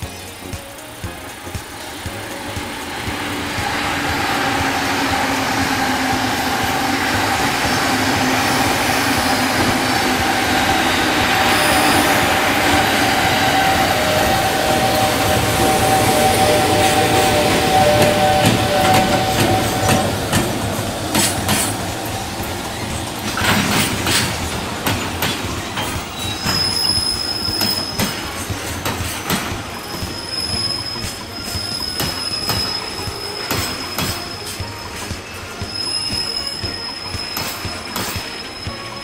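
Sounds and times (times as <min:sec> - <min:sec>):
electric locomotive whine: 0:00.0 - 0:39.0
high wheel squeal: 0:00.0 - 0:39.0
wheels clicking over rail joints: 0:00.0 - 0:39.0.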